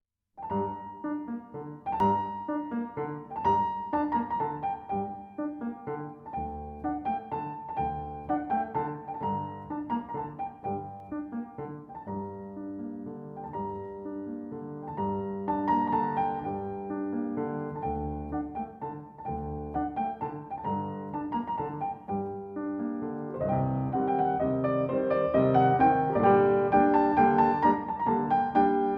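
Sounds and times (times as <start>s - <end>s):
gentle piano music: 0.4s - 28.9s.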